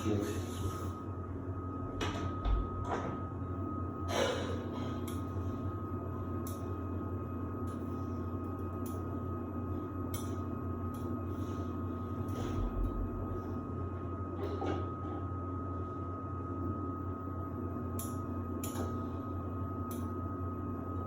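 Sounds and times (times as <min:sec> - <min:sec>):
washing machine hum: 0:00.0 - 0:21.0.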